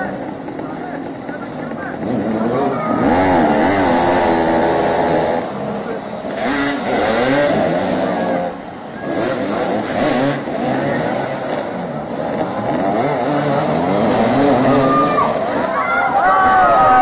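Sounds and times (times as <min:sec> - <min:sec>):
motorcycles revving: 0:00.0 - 0:17.0.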